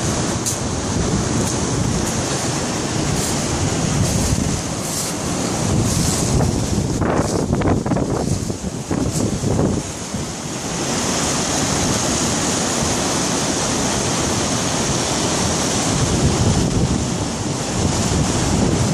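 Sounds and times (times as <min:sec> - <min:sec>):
creek water splashing over rocks: 0:00.0 - 0:16.2
wind buffeting microphone: 0:00.0 - 0:18.9.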